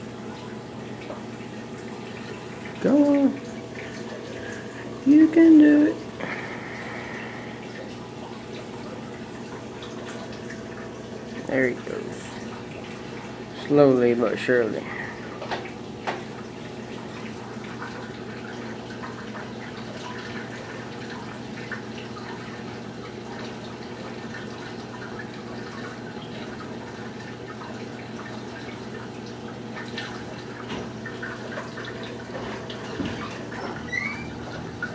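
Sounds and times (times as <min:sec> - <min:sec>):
aquarium pump hum: 0:00.0 - 0:34.9
small drips and ticks: 0:00.0 - 0:34.9
water trickling and bubbling: 0:00.0 - 0:34.9.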